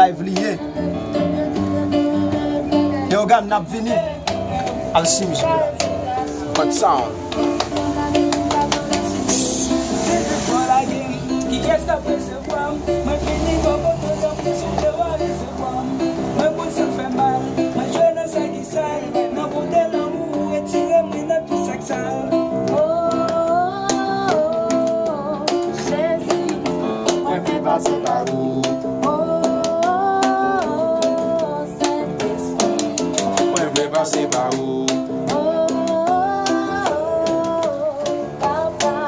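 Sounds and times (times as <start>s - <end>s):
music with percussive ticks and chords: 3.1s - 39.0s.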